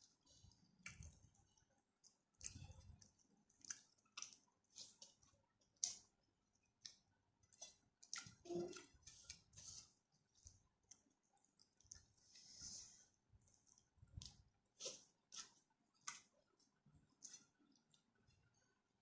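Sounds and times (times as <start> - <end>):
chewing and wet mouth smacks: 0.0 - 12.4, 13.4 - 18.4.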